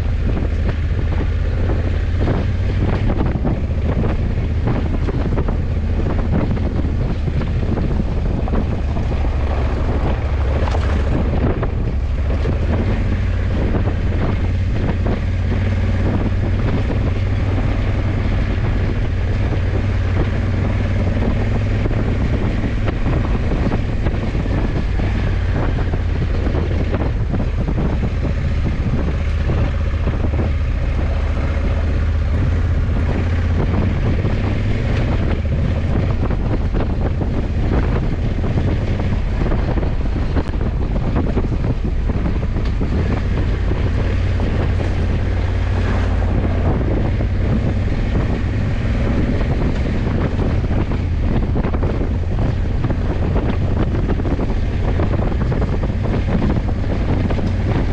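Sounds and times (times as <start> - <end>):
motorcycle engine cruising: 0.0 - 57.9
wind buffeting microphone: 0.0 - 57.9.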